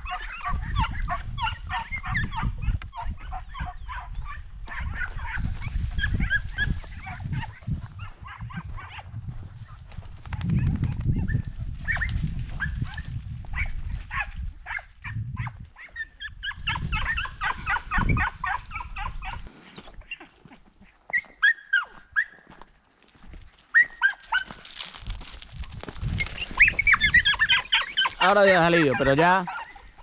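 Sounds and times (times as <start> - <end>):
hounds yelping: 0.0 - 9.8, 10.5 - 22.6, 23.7 - 24.9, 26.2 - 30.0.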